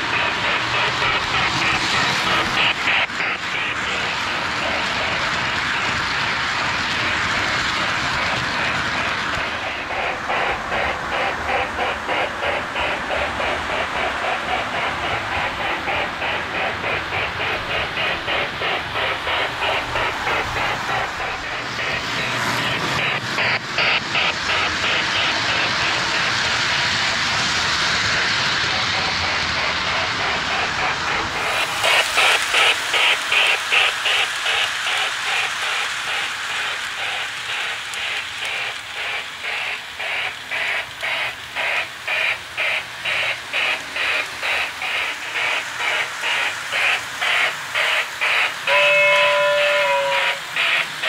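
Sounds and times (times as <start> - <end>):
model train running on track: 0.0 - 51.0.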